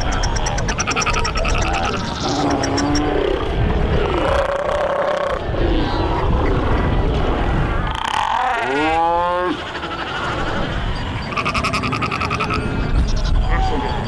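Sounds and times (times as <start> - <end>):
fur seals calling: 0.0 - 14.0.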